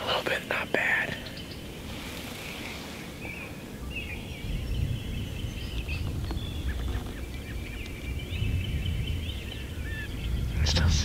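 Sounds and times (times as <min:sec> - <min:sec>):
birds warbling: 0:00.0 - 0:11.0
wind buffeting microphone: 0:00.0 - 0:11.0.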